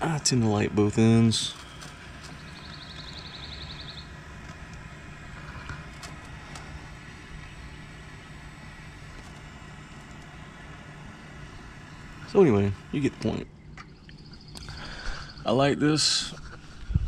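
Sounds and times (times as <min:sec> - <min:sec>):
torch lighter hissing: 0:00.0 - 0:16.9.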